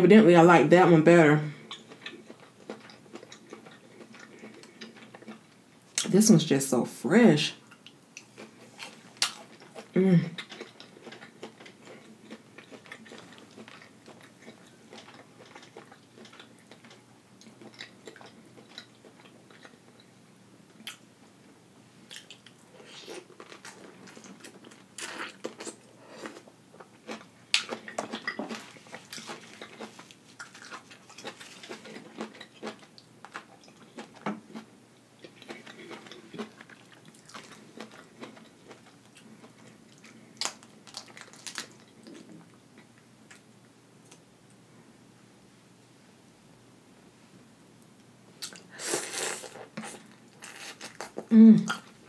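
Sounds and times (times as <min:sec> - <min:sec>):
person chewing food: 0:01.6 - 0:06.0, 0:07.6 - 0:20.1, 0:22.0 - 0:44.2, 0:48.4 - 0:52.0.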